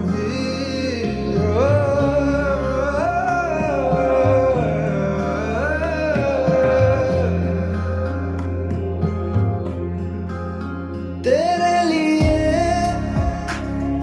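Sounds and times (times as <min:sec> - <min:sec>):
slow instrumental ballad melody: 0:00.0 - 0:14.0
sustained bass notes: 0:00.0 - 0:14.0.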